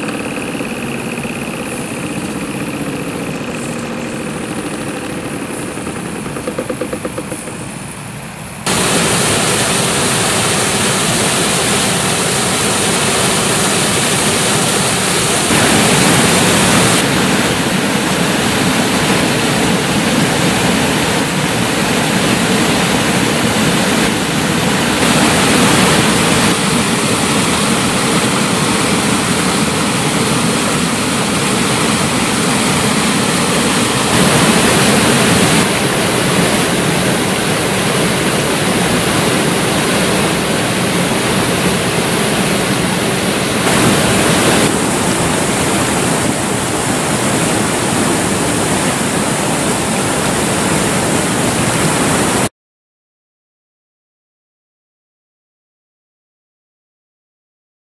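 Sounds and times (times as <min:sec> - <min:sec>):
stream water rushing: 0:00.0 - 0:52.5.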